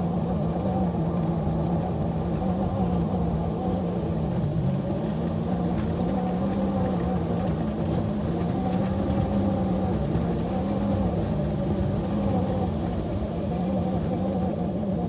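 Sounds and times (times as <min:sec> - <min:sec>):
locomotive engine running steadily: 0:00.0 - 0:15.0.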